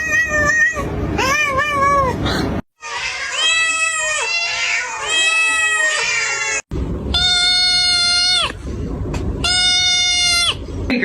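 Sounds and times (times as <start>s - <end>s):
cat meowing: 0.0s - 2.2s, 2.8s - 8.6s, 9.4s - 10.6s.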